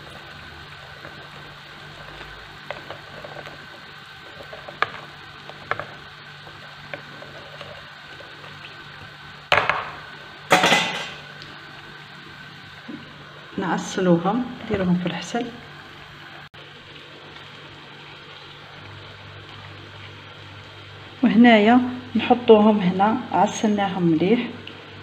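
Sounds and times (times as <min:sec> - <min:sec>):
dough sizzling in hot oil: 0:00.0 - 0:25.0.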